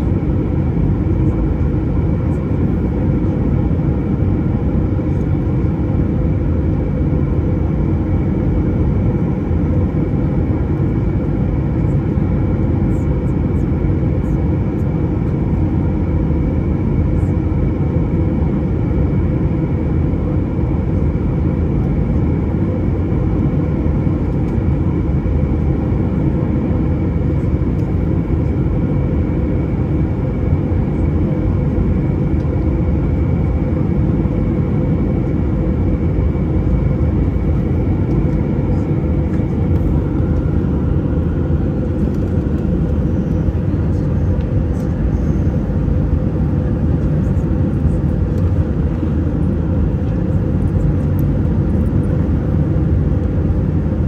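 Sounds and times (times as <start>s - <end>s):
high engine whine: 0.0s - 54.0s
jet cabin engine drone: 0.0s - 54.0s
lower engine whine: 0.0s - 54.0s.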